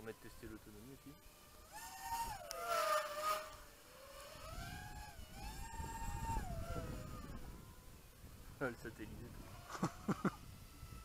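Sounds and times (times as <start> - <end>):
model aircraft motor whine: 0.0 - 11.0.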